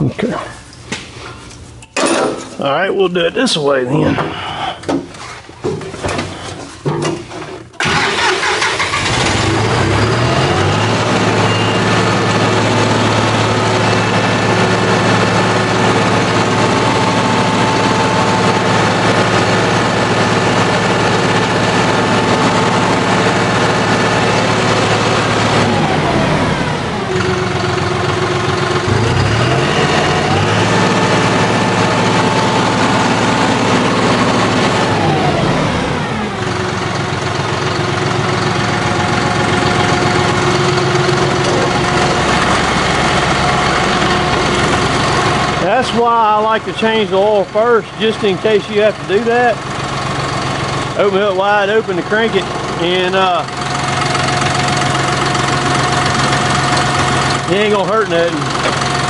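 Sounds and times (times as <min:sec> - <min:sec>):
tractor diesel engine starting: 0:03.6 - 0:59.0
tractor engine revving: 0:07.7 - 0:59.0.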